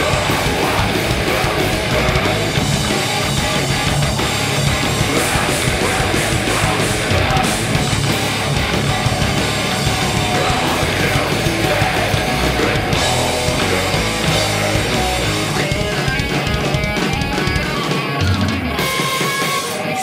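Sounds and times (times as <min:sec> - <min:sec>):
bass guitar: 0:00.0 - 0:20.0
drum kit with cymbals: 0:00.0 - 0:20.0
electric guitars: 0:00.0 - 0:20.0.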